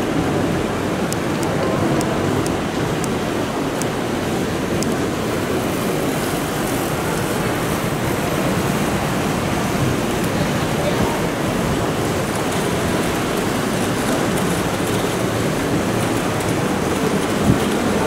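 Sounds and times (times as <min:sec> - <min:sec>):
steady outdoor rushing noise: 0:00.0 - 0:18.0.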